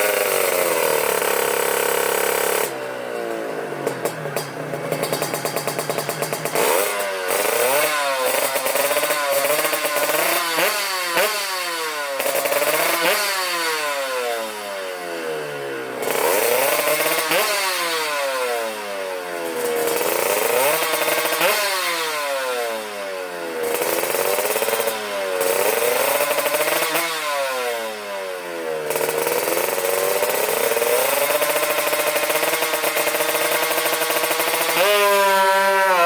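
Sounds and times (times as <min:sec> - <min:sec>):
two-stroke motorcycle engine revving: 0:00.0 - 0:36.0.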